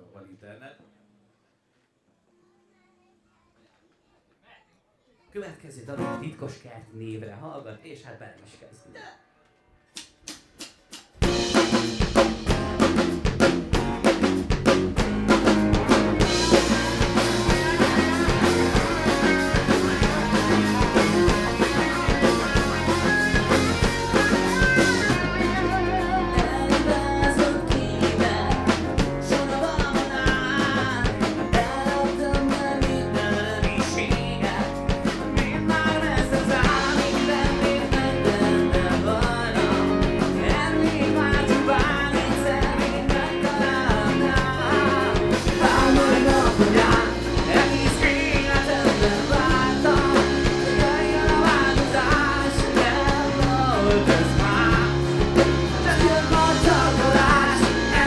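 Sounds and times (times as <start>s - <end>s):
live band playing: 10.5s - 58.0s.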